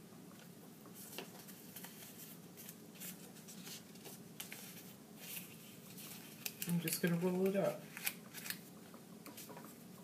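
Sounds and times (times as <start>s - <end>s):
paper rustling and scratching: 1.0s - 9.8s.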